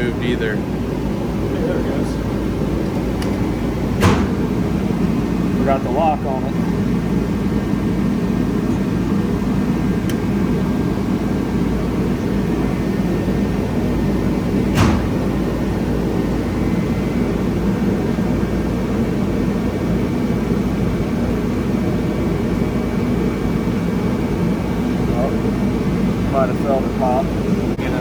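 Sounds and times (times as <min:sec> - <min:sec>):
low machinery drone: 0:00.0 - 0:28.0.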